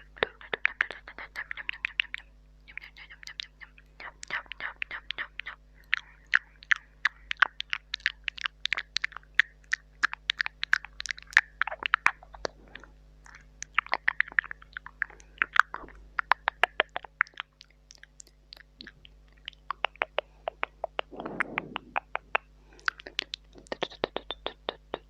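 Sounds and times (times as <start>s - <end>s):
wet mouth clicks and smacks: 0.2s - 25.0s.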